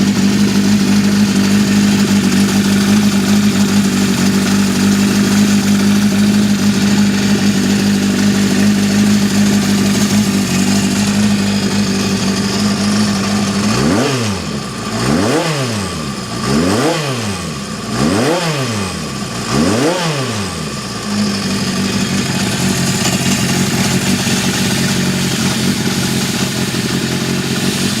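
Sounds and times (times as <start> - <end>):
motorcycle engine idling: 0.0 - 28.0
motorcycle engine revving: 0.0 - 28.0.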